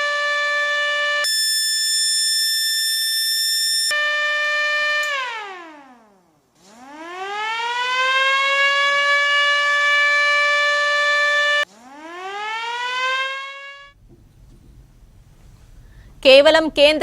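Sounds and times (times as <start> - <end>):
air-raid siren wailing: 0.0 - 16.2.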